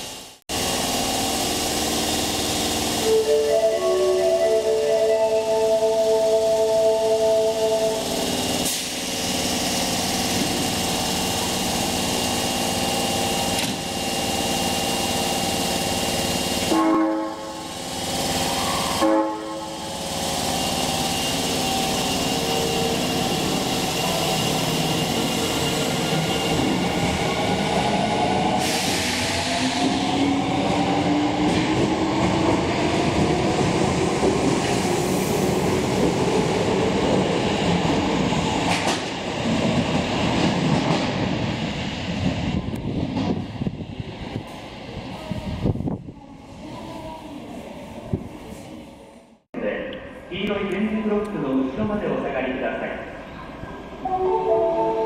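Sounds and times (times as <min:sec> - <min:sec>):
subway train running: 0:00.0 - 0:55.0.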